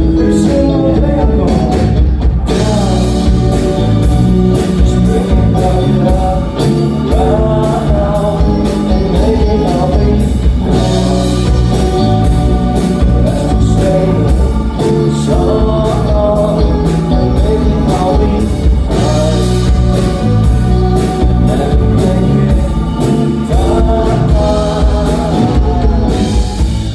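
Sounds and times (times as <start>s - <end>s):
live band playing: 0.0s - 26.9s
person singing: 0.0s - 26.9s
steady drum beat: 0.0s - 26.9s.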